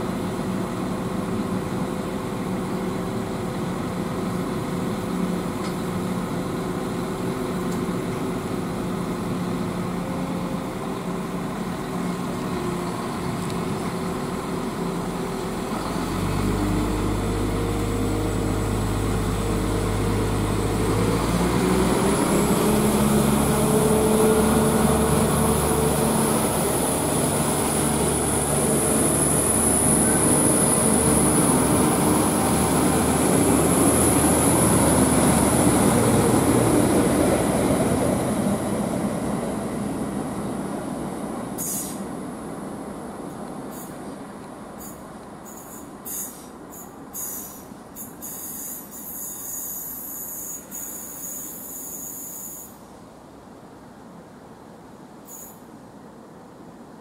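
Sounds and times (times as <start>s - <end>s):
train diesel engines: 0.0s - 57.0s.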